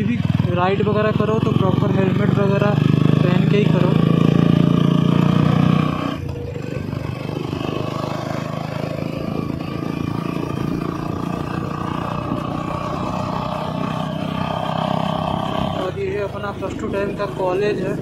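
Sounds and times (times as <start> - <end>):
motorcycle running: 0.0 - 18.0
wind and road noise: 0.0 - 18.0.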